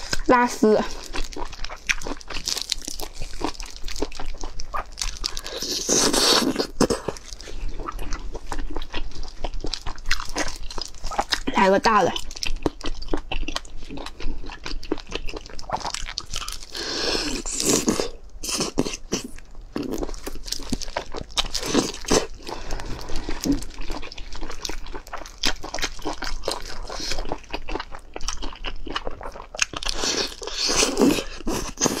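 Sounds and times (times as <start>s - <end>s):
wet chewing: 0.0s - 32.0s.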